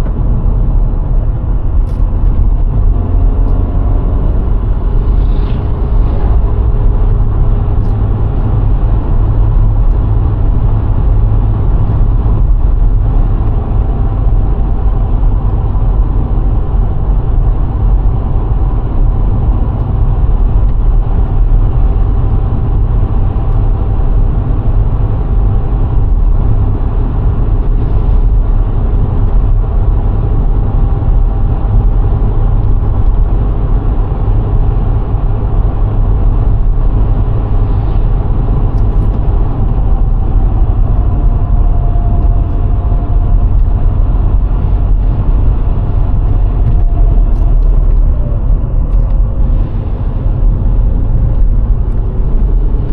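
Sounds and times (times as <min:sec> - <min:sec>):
car engine hum: 0:00.0 - 0:52.9
road and wind noise: 0:00.0 - 0:52.9.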